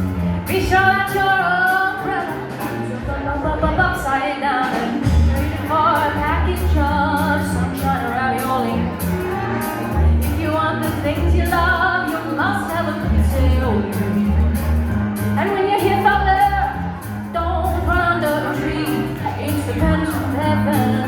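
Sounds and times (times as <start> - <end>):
live jazz band playing: 0.0 - 21.0.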